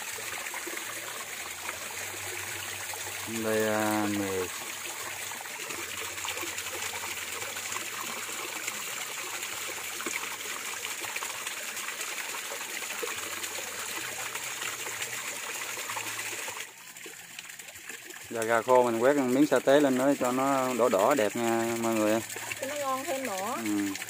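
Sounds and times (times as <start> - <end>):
forest stream trickling: 0.0 - 24.0.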